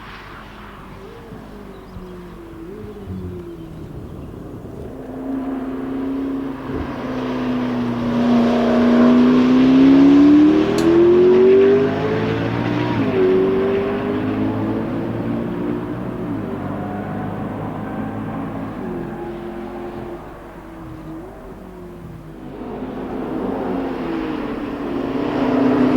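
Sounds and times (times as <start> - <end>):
car engine accelerating hard: 0.0 - 25.9
car passing: 0.0 - 25.9.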